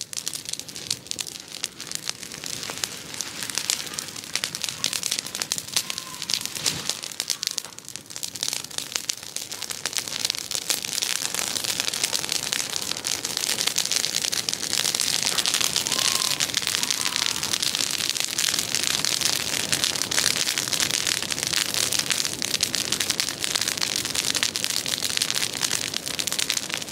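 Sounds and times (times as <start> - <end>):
bonfire crackling and popping: 0.0 - 26.9.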